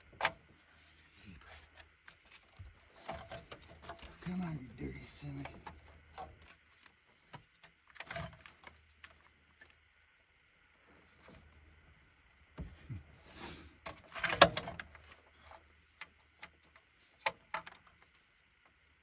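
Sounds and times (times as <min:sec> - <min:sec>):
hands and tools on engine parts: 0:00.0 - 0:19.0.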